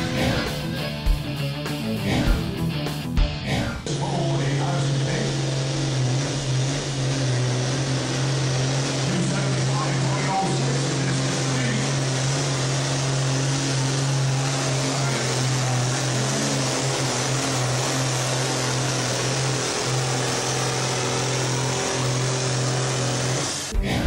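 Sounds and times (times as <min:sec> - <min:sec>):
tractor diesel engine droning: 0:00.0 - 0:24.0.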